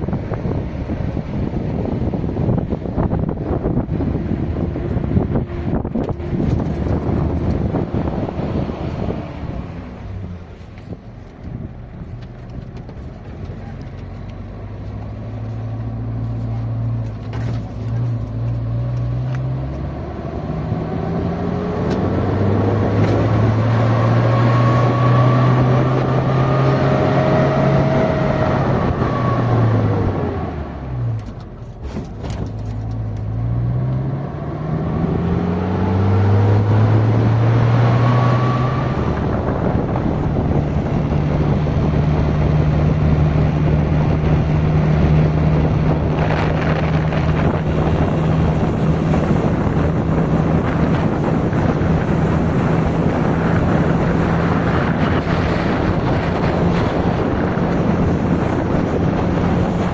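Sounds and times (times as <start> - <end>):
vehicle engine running under load: 0.0 - 59.9.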